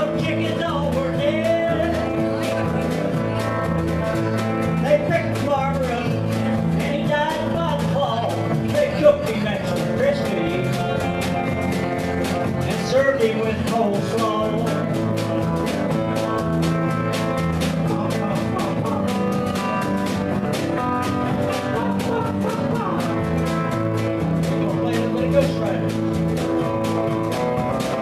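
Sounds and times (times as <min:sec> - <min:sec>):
person singing: 0:00.0 - 0:11.8, 0:12.4 - 0:26.0
electric bass: 0:00.0 - 0:28.0
steady drum beat: 0:00.0 - 0:28.0
strummed acoustic guitar: 0:00.0 - 0:28.0.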